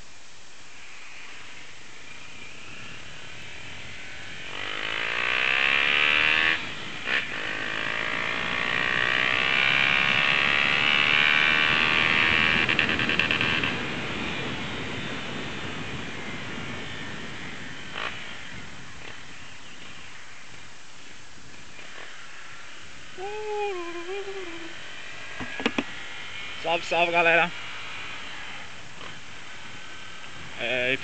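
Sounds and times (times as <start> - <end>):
motorcycle engine accelerating: 1.3 - 31.0.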